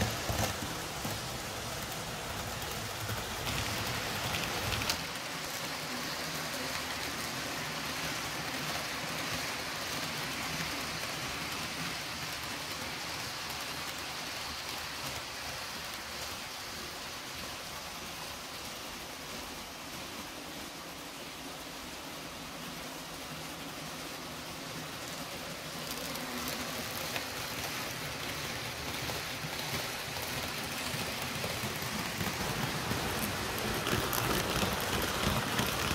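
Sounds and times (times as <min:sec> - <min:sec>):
model trains running on track: 0:00.0 - 0:35.9.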